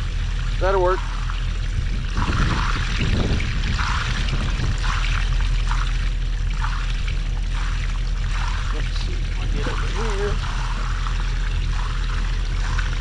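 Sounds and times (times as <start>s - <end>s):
steady low hum: 0.0s - 13.0s
water pouring and splashing: 0.0s - 13.0s.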